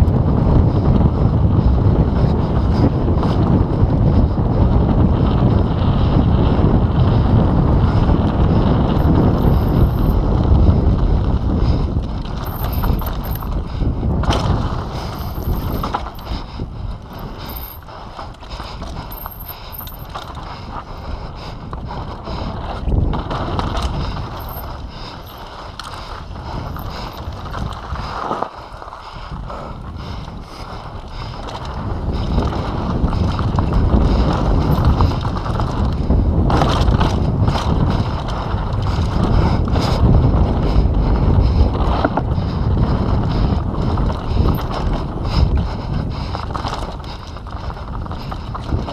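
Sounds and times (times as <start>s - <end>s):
bike tyre noise on dirt: 0.0s - 48.9s
wind rush on microphone: 0.0s - 48.9s
bike chain and frame clattering: 6.4s - 29.3s, 30.2s - 48.9s.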